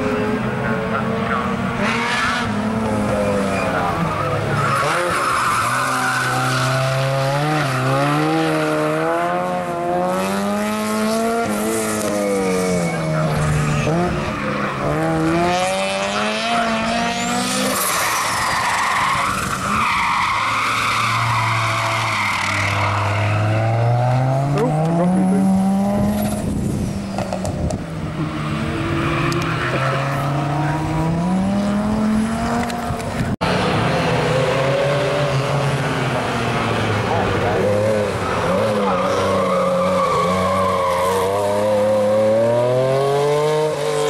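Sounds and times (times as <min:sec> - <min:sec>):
rally car engines revving: 0:00.0 - 0:44.0.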